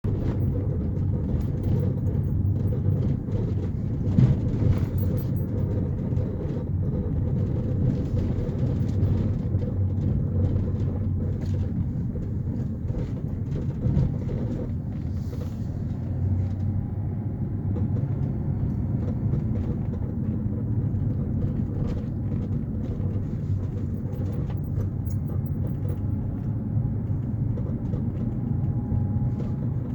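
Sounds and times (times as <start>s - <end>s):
vehicle engine low rumble: 0.0s - 29.9s.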